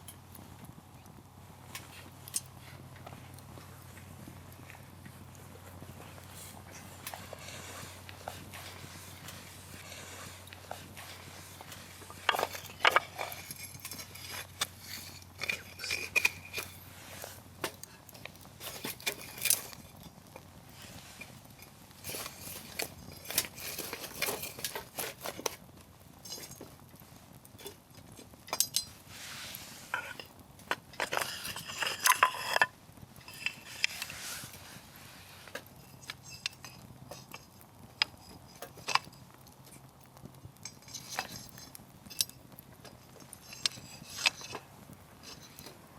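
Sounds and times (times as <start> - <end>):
firewood popping and snapping: 0.0 - 45.9
wood fire crackling: 0.0 - 45.9.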